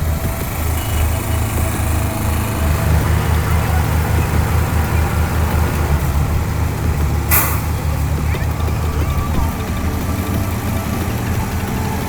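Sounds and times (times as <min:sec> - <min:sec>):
heavy vehicle engine throbbing: 0:00.0 - 0:12.0.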